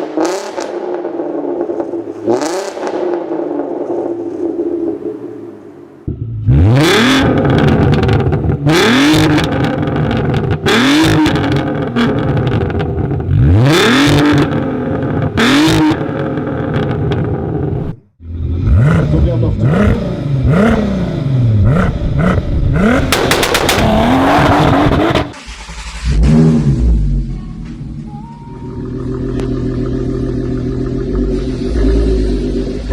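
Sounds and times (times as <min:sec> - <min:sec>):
exhaust cracks: 0:00.0 - 0:17.9, 0:18.7 - 0:32.9
car engine revving: 0:00.0 - 0:28.0, 0:28.6 - 0:32.9.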